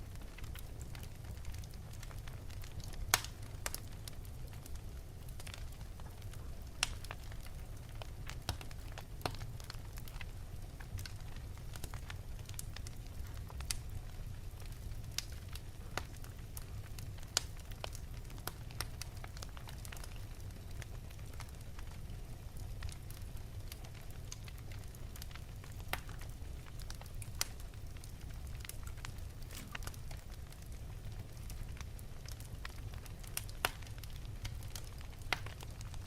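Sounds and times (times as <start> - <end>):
fire crackling and popping: 0.0 - 36.0
flames rumbling: 0.0 - 36.0.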